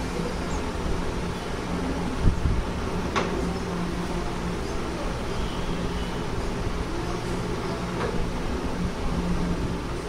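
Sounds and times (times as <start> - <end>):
faint hum: 0.0 - 10.0
low rumbling background noise: 0.0 - 10.0.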